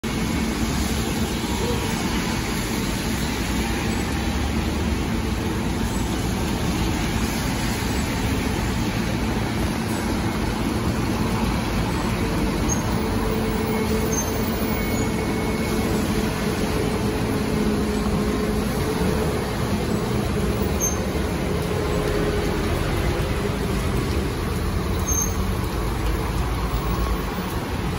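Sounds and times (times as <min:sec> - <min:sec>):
road noise: 0:00.0 - 0:27.9.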